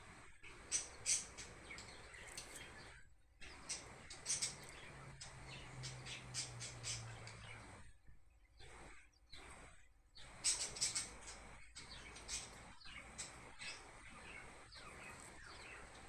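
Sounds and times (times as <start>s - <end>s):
wild birds chirping: 0.0s - 16.0s.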